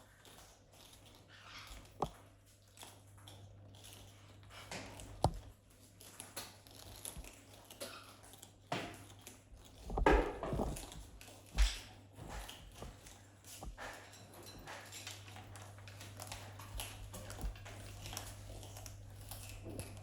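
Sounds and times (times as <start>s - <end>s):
parrots crunching carrots: 0.0s - 20.0s.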